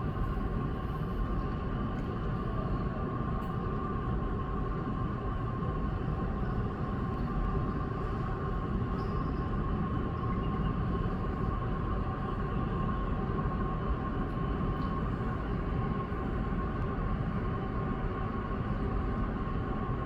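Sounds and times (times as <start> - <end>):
airliner cabin rumble and whine: 0.0 - 20.0.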